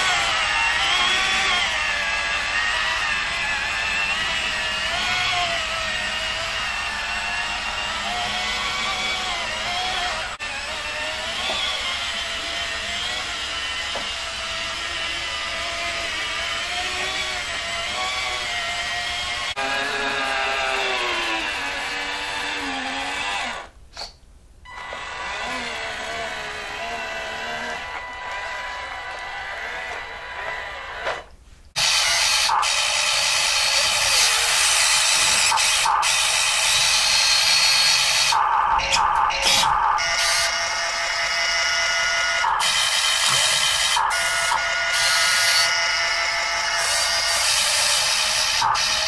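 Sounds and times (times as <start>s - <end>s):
toy truck motor whirring: 0.0s - 49.0s.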